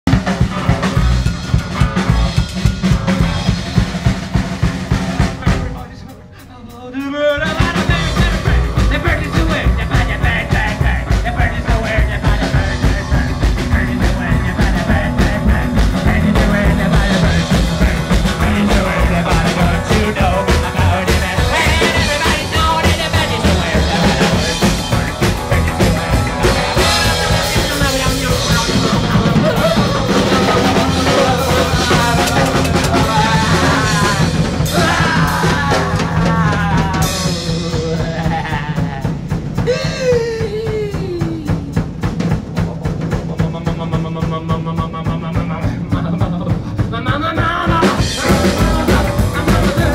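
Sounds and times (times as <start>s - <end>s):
drum kit: 0.0s - 49.9s
upright bass: 0.0s - 49.9s
electric guitar: 0.1s - 6.4s, 7.2s - 49.9s.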